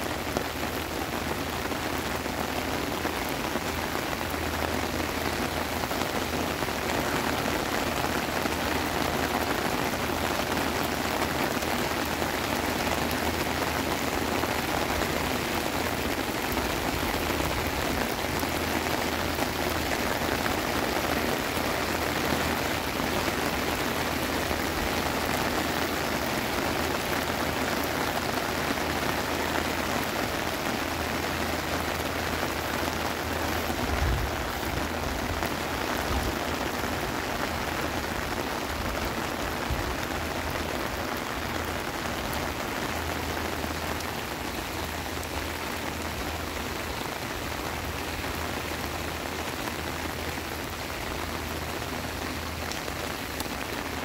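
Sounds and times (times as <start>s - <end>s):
heavy rain on pavement: 0.0s - 54.0s
rain pattering on umbrella: 0.0s - 54.0s.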